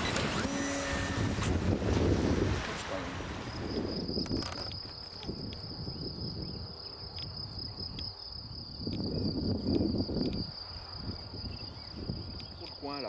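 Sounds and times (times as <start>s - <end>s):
wind rumble on microphone: 0.0s - 12.8s
insect trill: 0.3s - 13.0s.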